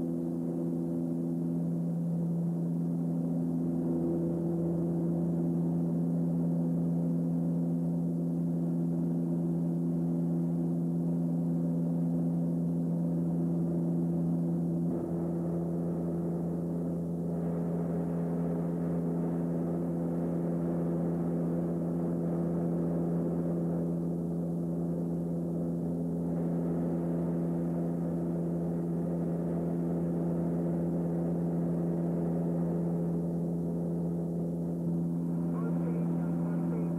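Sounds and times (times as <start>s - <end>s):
turboprop cabin drone: 0.0s - 36.9s.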